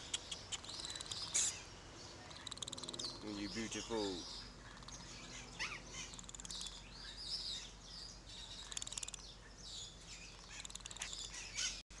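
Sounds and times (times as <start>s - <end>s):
prairie dog chirping: 0.0s - 11.8s.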